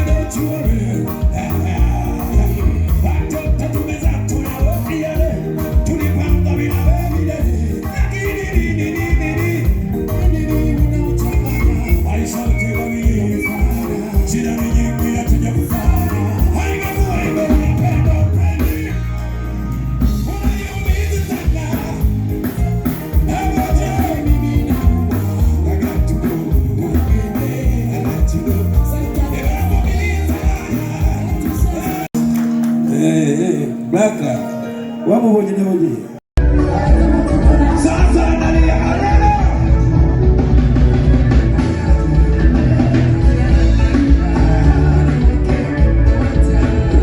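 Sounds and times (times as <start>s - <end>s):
person singing: 0.0s - 47.0s
upbeat pop music: 0.0s - 47.0s.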